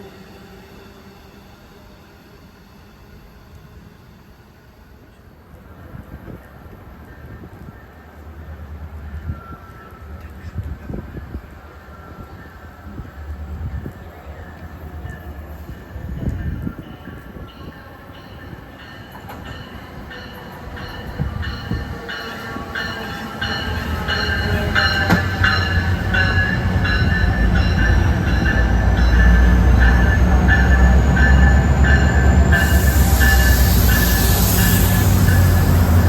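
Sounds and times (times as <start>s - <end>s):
passenger train rumble: 0.0s - 36.0s.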